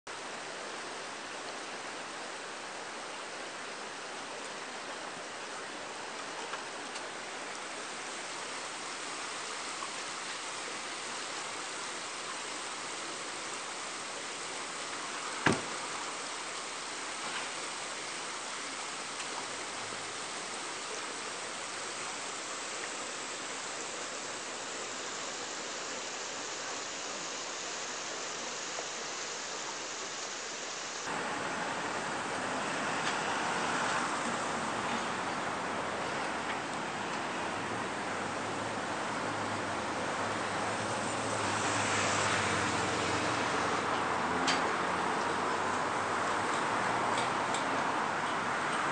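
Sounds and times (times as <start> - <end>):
river water rushing: 0.1 - 48.9.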